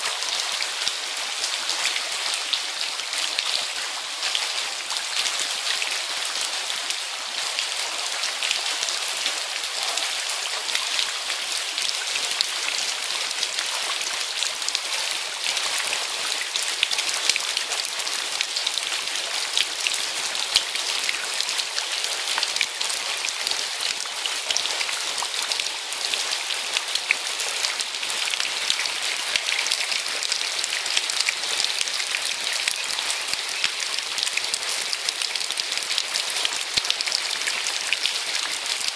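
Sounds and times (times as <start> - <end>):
heavy rain on floodwater: 0.0 - 38.9.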